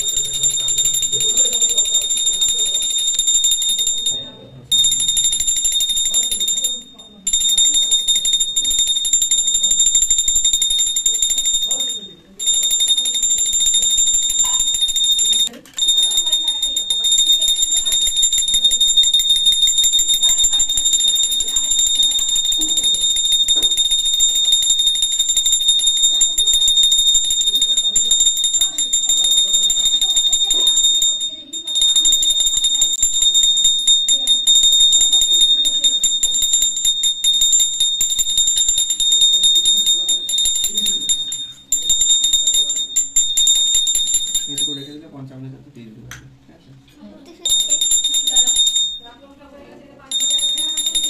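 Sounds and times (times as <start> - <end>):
faint voices: 0.0 - 45.1
bell rung rapidly: 0.0 - 45.2, 47.4 - 49.2, 50.0 - 51.0.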